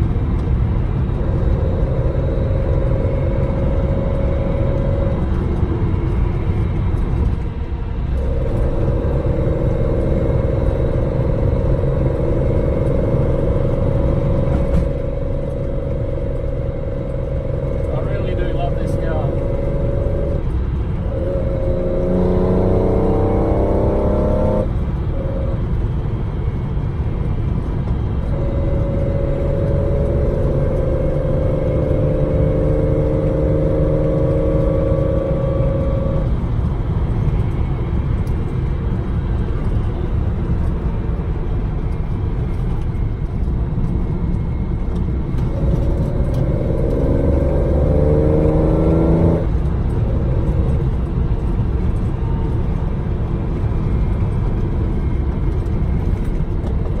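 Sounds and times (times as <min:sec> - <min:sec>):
car engine revving: 0:00.0 - 0:37.6, 0:43.8 - 0:57.0.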